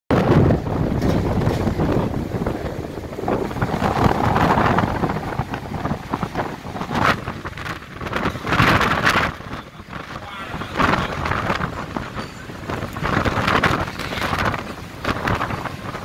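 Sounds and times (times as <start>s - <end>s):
storm wind gusting: 0.1s - 16.0s
wind buffeting microphone: 0.1s - 16.0s.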